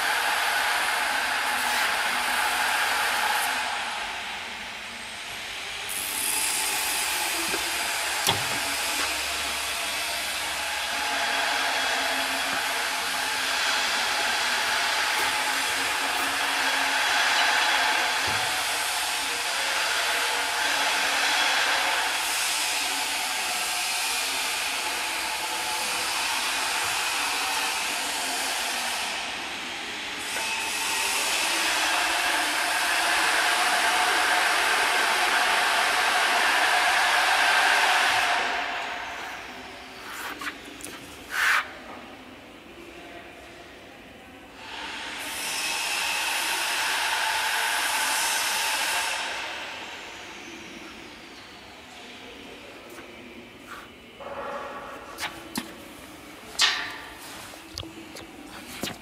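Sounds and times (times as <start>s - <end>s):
machinery whirring hiss: 0.0s - 41.9s, 44.6s - 54.4s.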